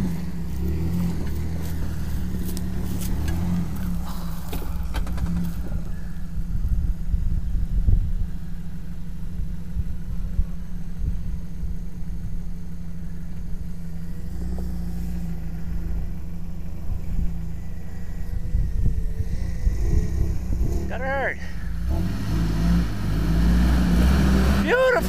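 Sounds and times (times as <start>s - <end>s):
engine rumbling at low revs: 0.0s - 25.0s.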